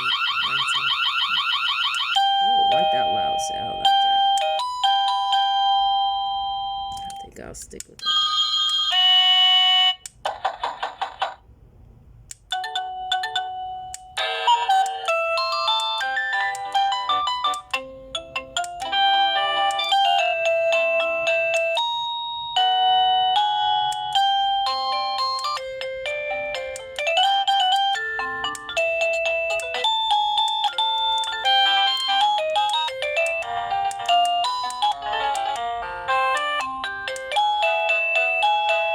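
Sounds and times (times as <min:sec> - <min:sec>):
doorbell electronic chime melodies: 0:00.0 - 0:07.2, 0:08.0 - 0:10.1, 0:12.5 - 0:38.9.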